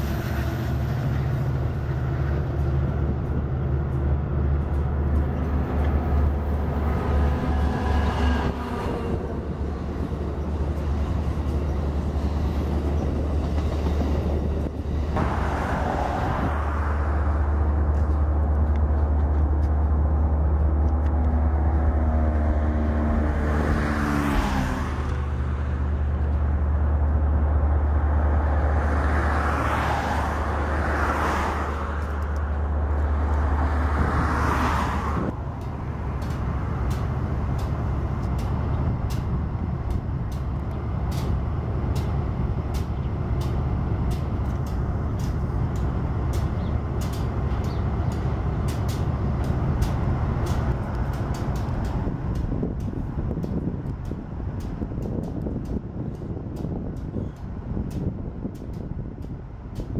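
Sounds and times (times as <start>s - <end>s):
train cars rolling on rails: 0.0s - 59.9s.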